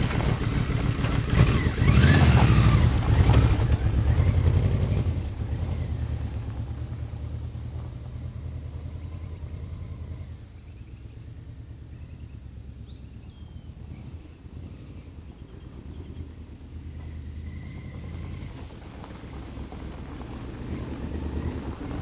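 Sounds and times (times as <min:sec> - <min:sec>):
motorcycle engine pulling away: 0:00.0 - 0:22.0.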